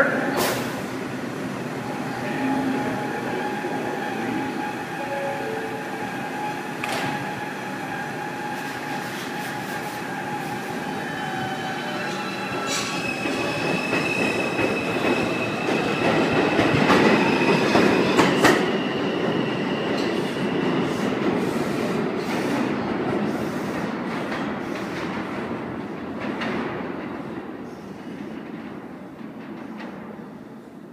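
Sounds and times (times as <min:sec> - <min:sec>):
subway train electric whine: 0:00.0 - 0:30.9.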